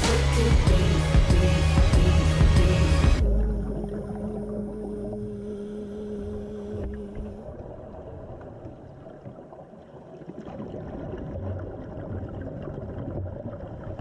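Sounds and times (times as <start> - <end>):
low underwater rumbles: 0.5 - 14.0.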